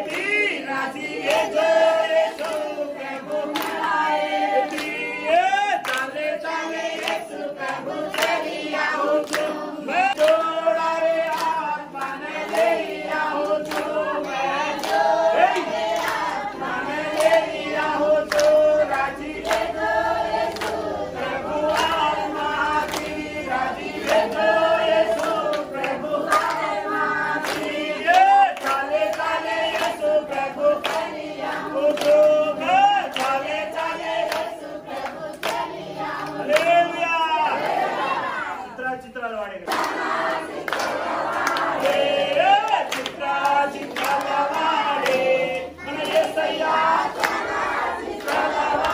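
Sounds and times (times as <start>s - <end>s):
rhythmic hand clapping: 0.0s - 38.5s, 39.4s - 48.9s
group singing worship song: 0.0s - 48.9s.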